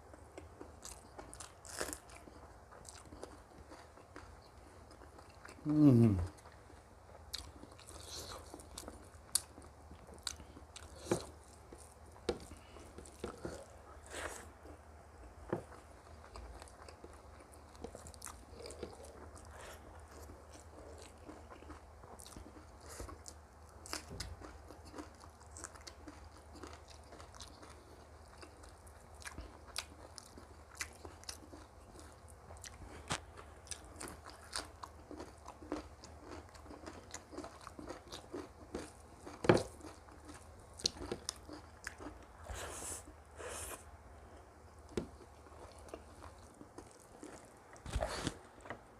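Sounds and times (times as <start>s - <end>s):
person chewing: 0.4s - 48.9s.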